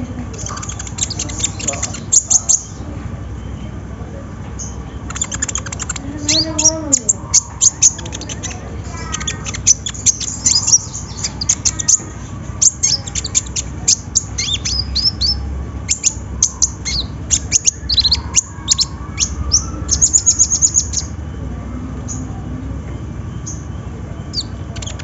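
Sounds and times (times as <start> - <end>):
bird singing high chirps: 0.3 - 3.6, 4.6 - 21.3, 22.0 - 22.4, 23.3 - 25.0.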